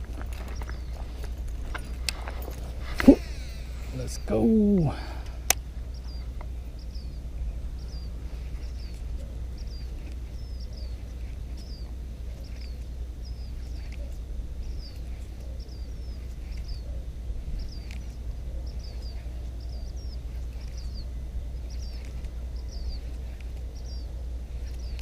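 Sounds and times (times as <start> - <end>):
small bird chirping: 0.0 - 25.0
steady low rumble: 0.0 - 25.0.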